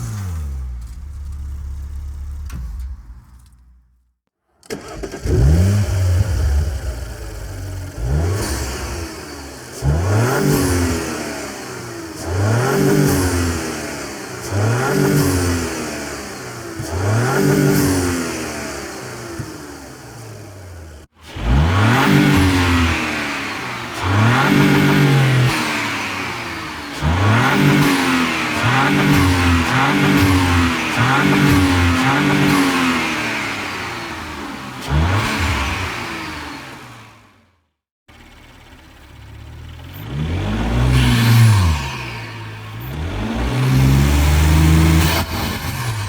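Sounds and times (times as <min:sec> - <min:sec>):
car engine revving: 0:04.7 - 0:37.5, 0:38.1 - 0:46.0.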